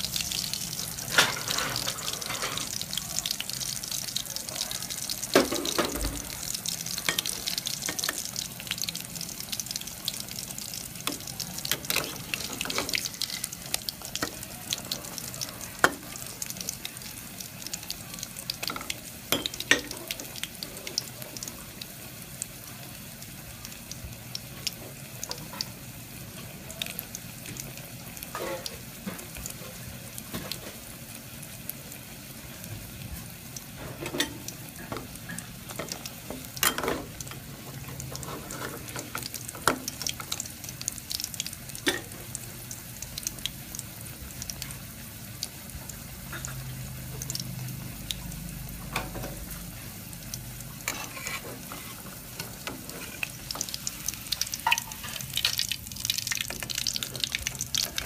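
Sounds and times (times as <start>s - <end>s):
frying sizzle with crackling pops: 0.0s - 58.0s.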